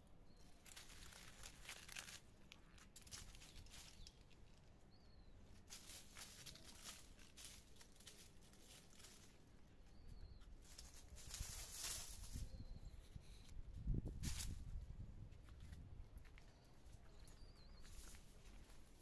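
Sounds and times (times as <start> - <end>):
leaves and branches rustling: 0.3 - 19.0.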